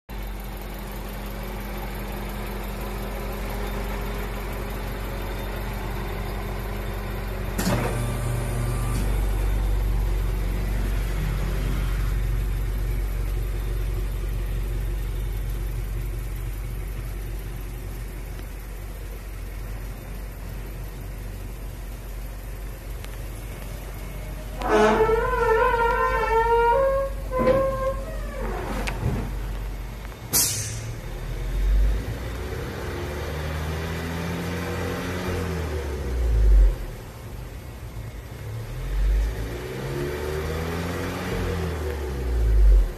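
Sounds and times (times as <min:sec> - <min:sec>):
car engine idling: 0:00.1 - 0:39.4.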